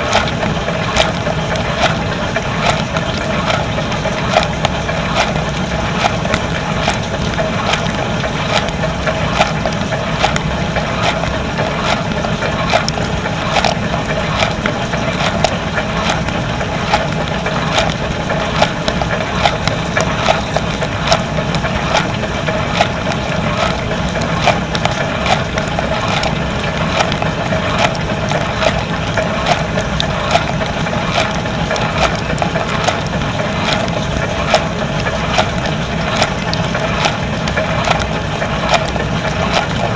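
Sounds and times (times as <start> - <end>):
dishwasher pump hum: 0.0 - 39.9
spraying water: 0.0 - 39.9.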